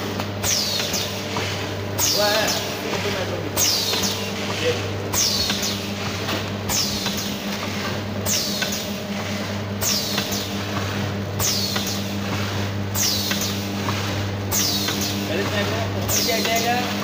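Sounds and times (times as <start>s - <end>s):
packing machine humming: 0.0s - 17.0s.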